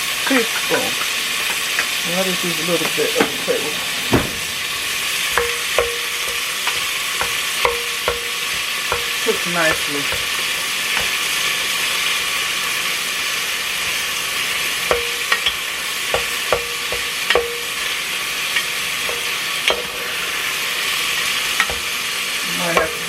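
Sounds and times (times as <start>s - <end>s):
meat sizzling: 0.0s - 23.0s.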